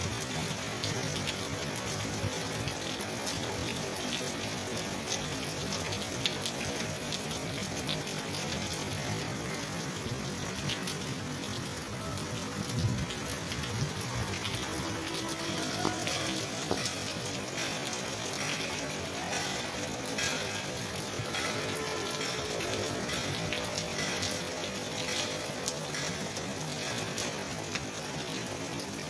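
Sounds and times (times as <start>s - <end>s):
rain falling: 0.0s - 29.0s
raindrops ticking on hard surfaces: 0.0s - 29.0s.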